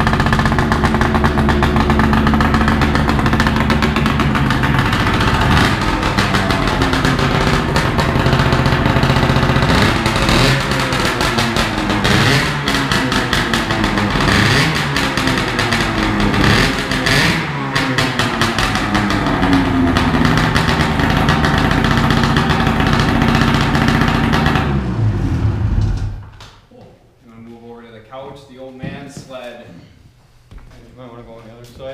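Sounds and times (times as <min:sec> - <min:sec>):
snowmobile engine revving: 0:00.0 - 0:26.1.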